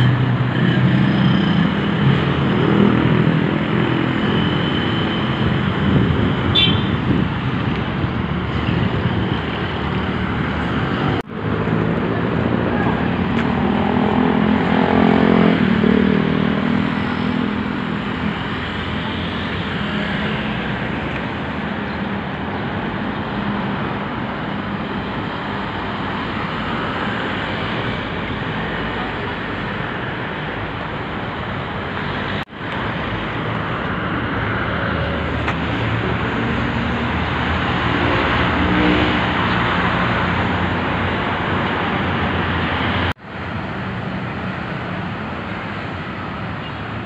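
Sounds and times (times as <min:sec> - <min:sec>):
street traffic: 0:00.0 - 0:47.0.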